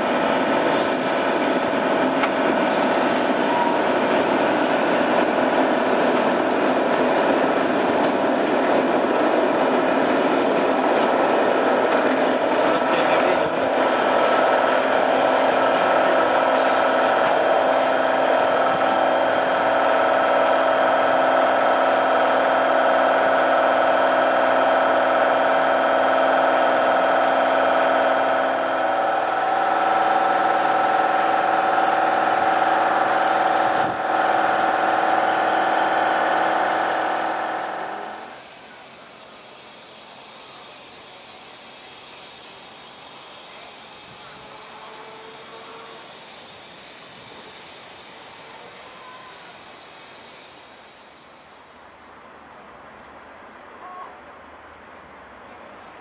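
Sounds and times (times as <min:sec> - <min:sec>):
train electrical whine: 0:00.0 - 0:54.0.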